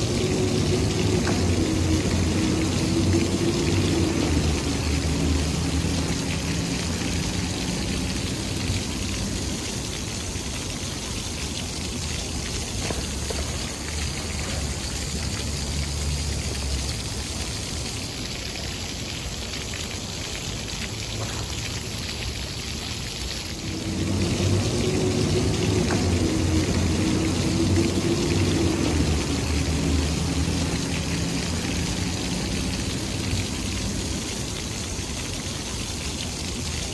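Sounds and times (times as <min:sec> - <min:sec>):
fountains splashing into pool: 0:00.0 - 0:36.9
low hum of city traffic: 0:00.0 - 0:36.9.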